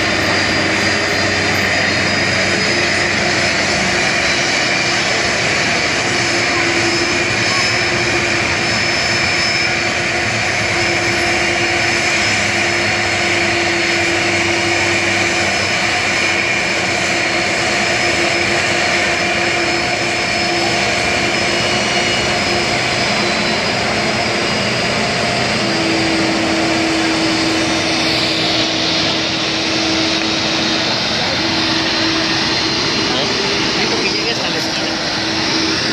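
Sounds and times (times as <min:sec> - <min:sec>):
jet engines running: 0:00.0 - 0:35.9.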